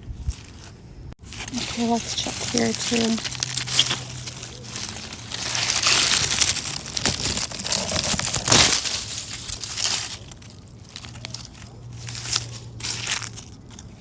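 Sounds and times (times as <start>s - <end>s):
hands digging through soil: 0.1s - 14.0s.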